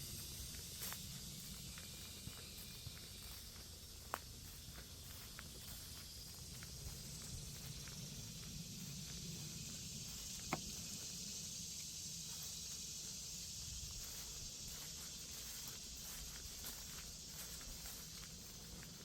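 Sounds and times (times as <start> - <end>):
high-pitched outdoor hiss: 0.0 - 19.0.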